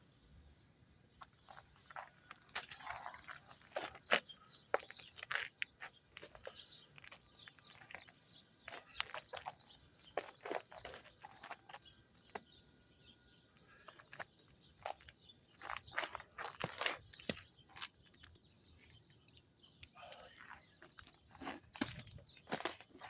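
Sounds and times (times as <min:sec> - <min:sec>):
footsteps crunching on icy snow: 0:01.2 - 0:12.5, 0:13.7 - 0:19.4, 0:20.0 - 0:23.0.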